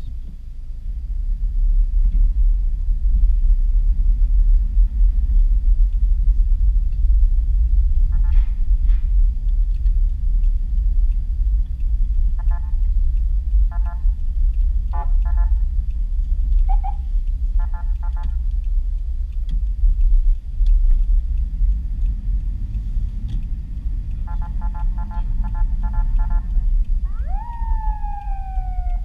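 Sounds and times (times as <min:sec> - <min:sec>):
car driving rumble: 0:00.0 - 0:29.0.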